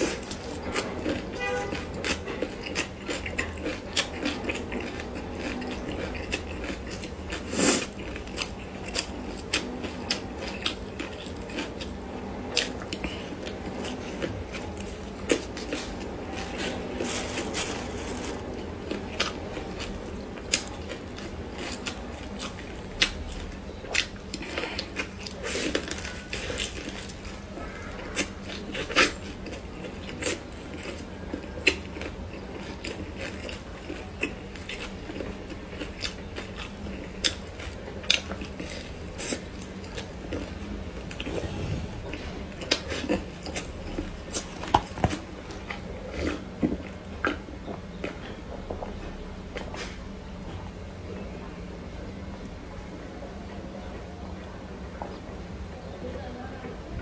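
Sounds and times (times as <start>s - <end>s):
chewing and tearing flatbread: 0.0s - 50.6s.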